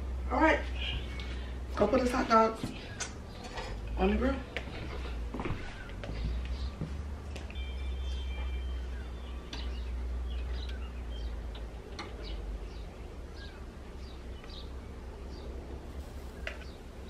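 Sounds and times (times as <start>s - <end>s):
steady low rumble: 0.0s - 17.0s
small birds chirping: 0.3s - 17.0s.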